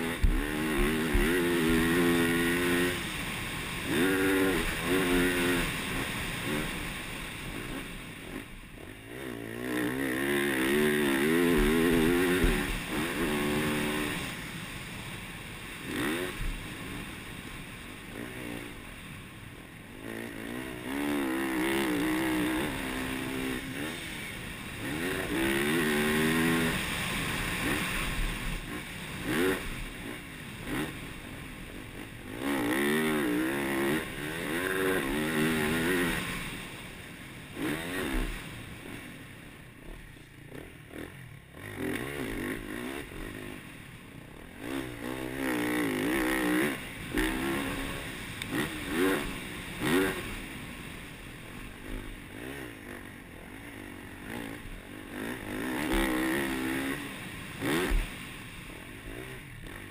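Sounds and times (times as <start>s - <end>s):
motocross engine revving: 0.0s - 14.7s, 15.6s - 18.9s, 19.9s - 59.9s.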